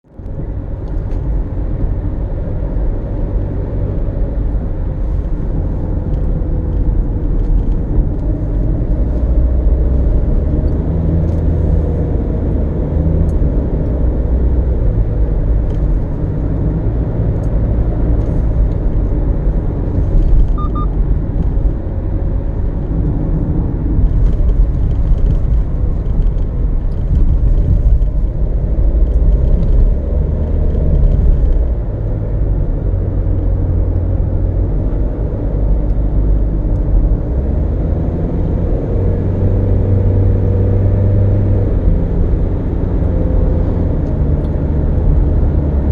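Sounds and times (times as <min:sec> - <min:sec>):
car engine rumble: 0:00.0 - 0:45.9
road noise: 0:00.0 - 0:45.9.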